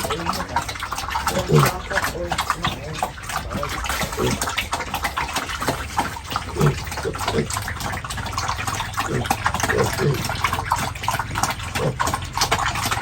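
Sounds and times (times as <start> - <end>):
pigs grunting: 0.0 - 13.0
pigs slurping and chomping feed: 0.0 - 13.0.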